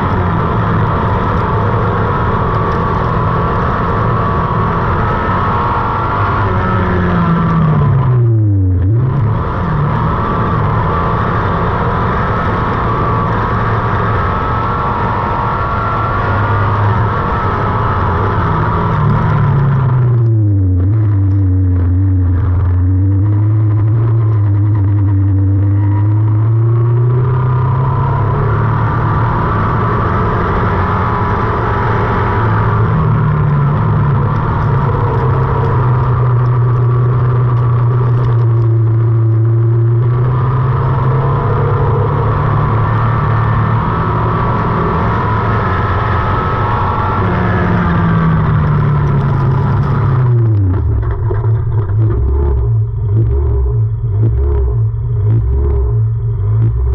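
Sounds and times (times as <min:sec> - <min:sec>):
racing car engine revving: 0:00.0 - 0:56.9.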